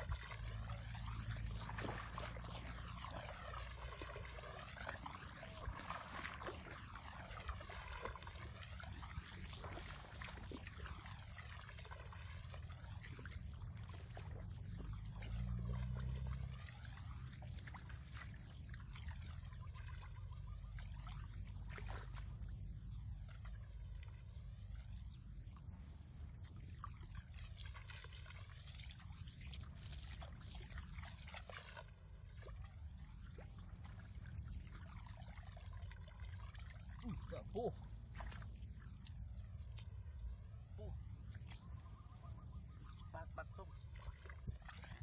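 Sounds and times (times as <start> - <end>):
people wading through water: 0.0 - 45.0.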